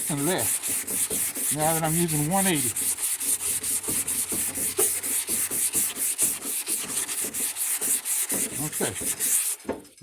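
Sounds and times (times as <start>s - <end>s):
sandpaper rubbing on filler: 0.0s - 10.0s.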